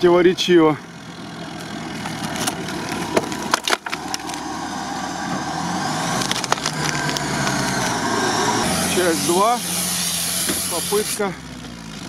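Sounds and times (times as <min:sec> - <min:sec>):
off-road vehicle engine running: 0:00.0 - 0:12.0
dry branches cracking under tyres: 0:01.0 - 0:12.0.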